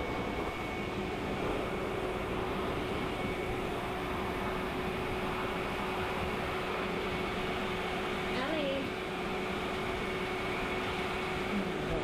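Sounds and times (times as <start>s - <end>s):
blow dryer running: 0.0s - 12.0s.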